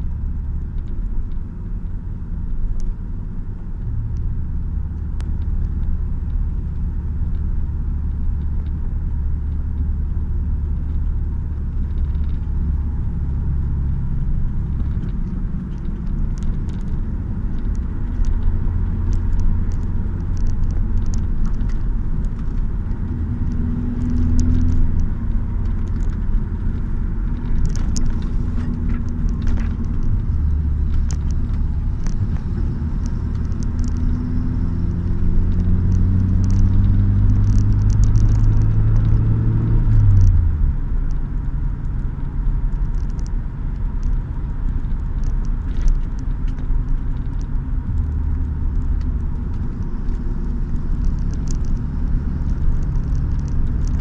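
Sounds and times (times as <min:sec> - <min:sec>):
car engine and road noise: 0:00.0 - 0:54.0
small clicks and rattles: 0:04.9 - 0:54.0.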